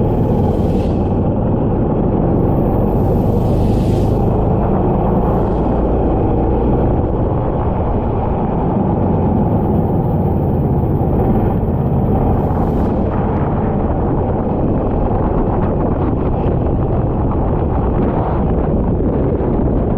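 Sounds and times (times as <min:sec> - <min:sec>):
kart engine: 0:00.0 - 0:16.8
wind buffeting microphone: 0:00.0 - 0:19.9.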